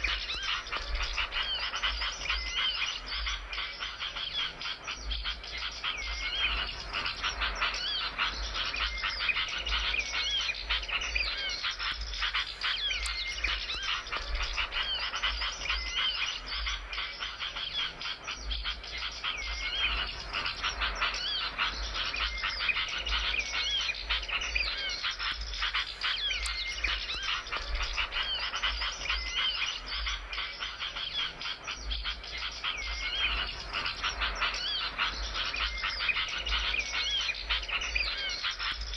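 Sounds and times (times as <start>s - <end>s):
songbird chattering trills: 0.0s - 38.9s
whistled bird notes: 0.0s - 38.9s.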